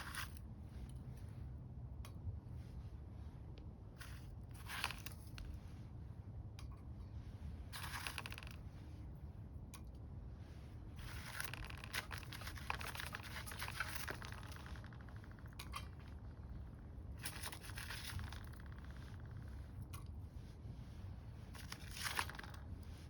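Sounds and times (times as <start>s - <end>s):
rumble of wood stove flame: 0.0s - 23.0s.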